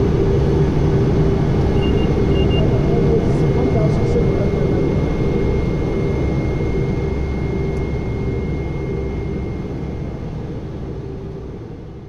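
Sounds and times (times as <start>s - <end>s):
high turbine whine: 0.0s - 12.0s
turboprop engine rumble: 0.0s - 12.0s.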